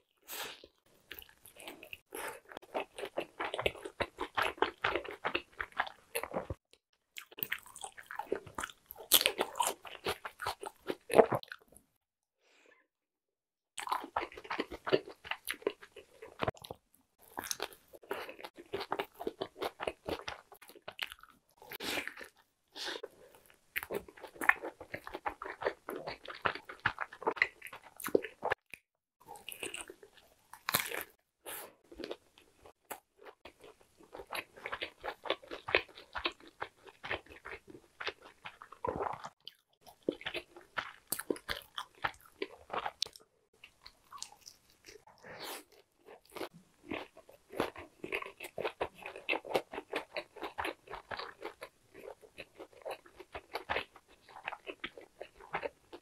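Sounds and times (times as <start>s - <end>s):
crunching and chewing: 0.3s - 11.8s, 13.8s - 56.0s.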